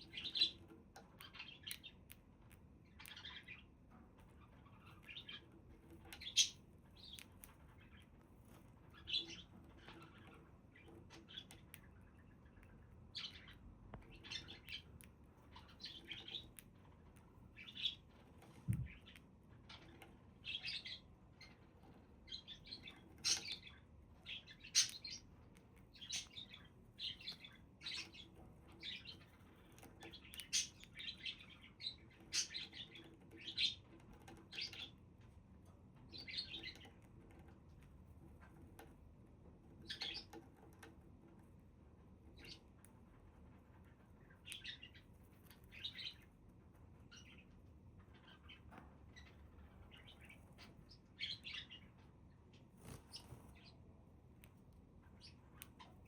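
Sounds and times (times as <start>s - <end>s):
budgerigars chirping and chattering: 0.0s - 35.0s, 36.0s - 37.5s, 39.8s - 40.9s, 42.3s - 52.0s, 52.8s - 53.8s.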